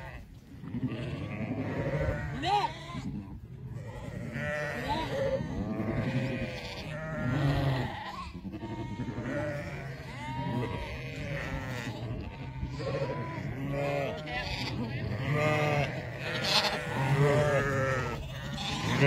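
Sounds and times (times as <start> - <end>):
sheep bleating: 0.0 - 19.0.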